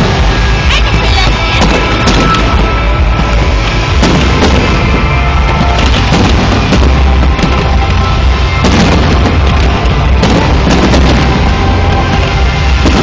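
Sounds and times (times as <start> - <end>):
fireworks booming and crackling: 0.0 - 13.0
music playing: 0.0 - 13.0.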